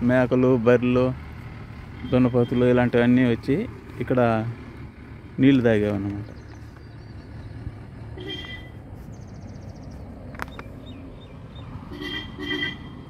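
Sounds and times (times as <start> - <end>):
birds calling: 1.2 - 13.0.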